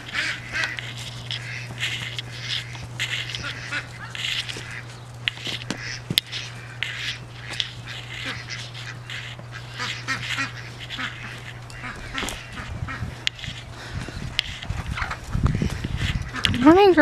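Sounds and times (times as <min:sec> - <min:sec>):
fowl calling: 0:00.0 - 0:17.0
steady low hum: 0:00.0 - 0:17.0.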